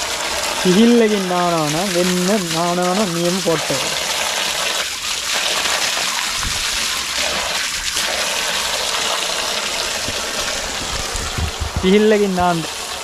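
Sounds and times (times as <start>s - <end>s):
water gushing onto rock: 0.0s - 13.0s.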